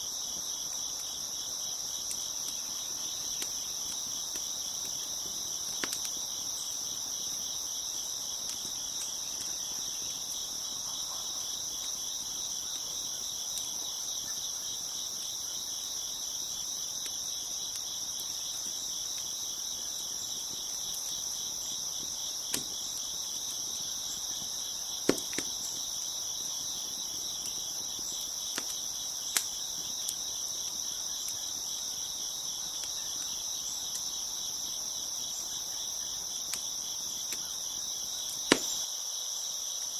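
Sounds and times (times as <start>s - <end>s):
wood fire popping: 0.0s - 38.8s
crickets chirping: 0.0s - 39.9s.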